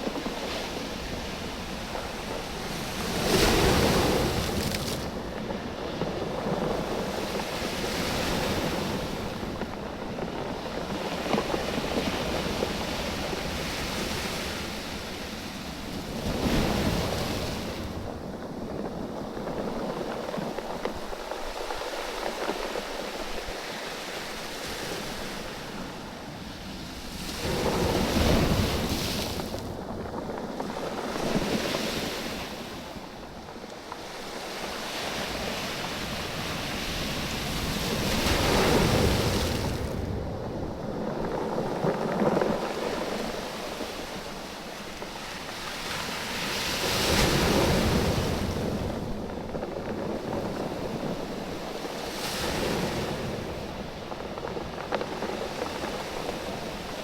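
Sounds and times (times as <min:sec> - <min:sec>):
waves washing over stones: 0:00.0 - 0:57.0.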